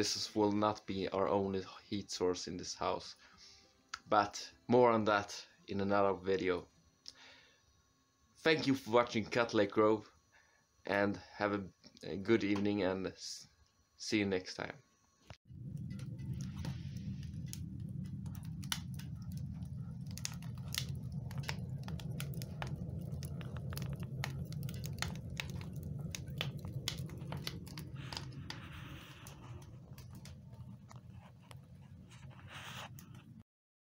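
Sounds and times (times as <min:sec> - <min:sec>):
wood fire crackling: 0:00.0 - 0:07.7, 0:08.4 - 0:13.8, 0:15.4 - 0:33.4.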